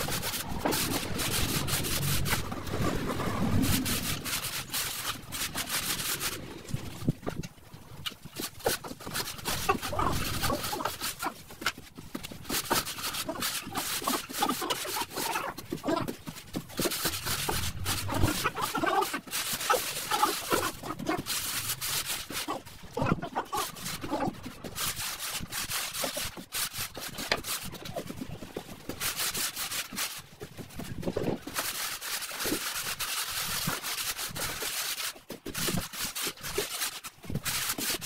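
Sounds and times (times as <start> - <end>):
straightedge scraping over screed: 0.0 - 38.0.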